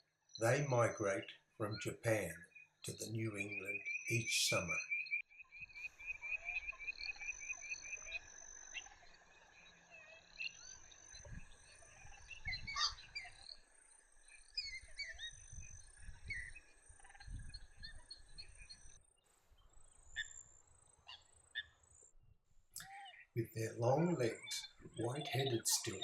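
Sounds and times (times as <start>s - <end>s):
frogs calling: 0.4s - 19.0s, 19.6s - 22.1s, 22.8s - 26.0s.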